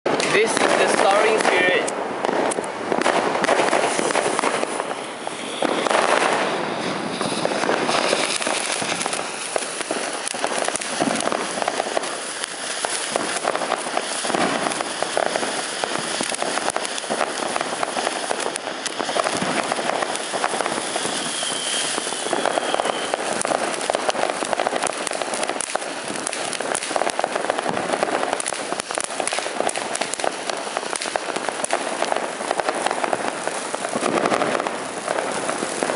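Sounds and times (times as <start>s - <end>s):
firework fountain hissing and crackling: 0.1s - 35.9s.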